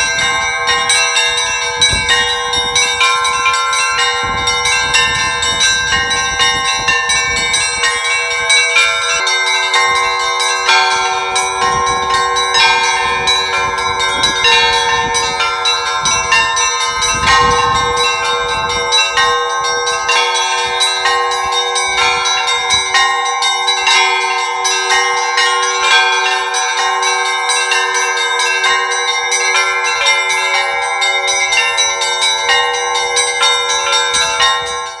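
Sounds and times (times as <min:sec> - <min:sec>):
deep bell ringing: 0:00.0 - 0:35.0
large bells ringing: 0:00.0 - 0:35.0
small church bells struck quickly: 0:00.0 - 0:35.0.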